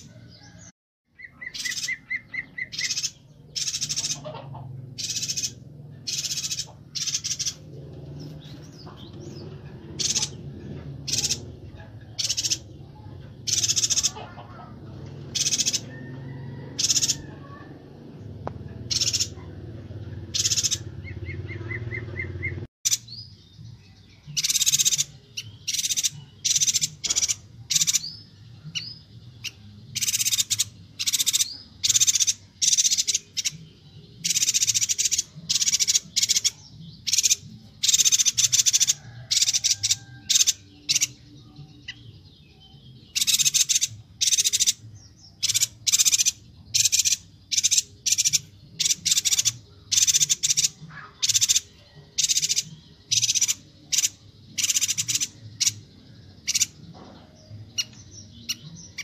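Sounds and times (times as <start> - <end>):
bird chattering calls: 1.2 - 17.7, 18.8 - 23.2, 24.3 - 42.1, 43.1 - 59.0.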